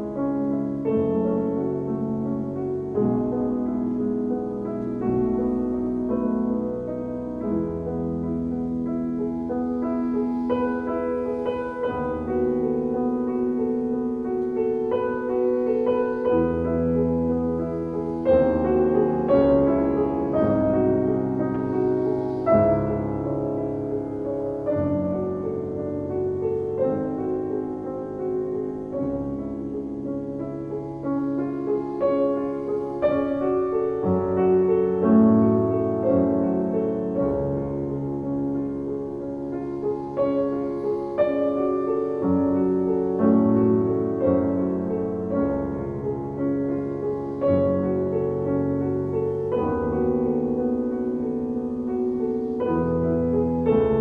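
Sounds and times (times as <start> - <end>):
solo piano classical piece: 0.0 - 54.0.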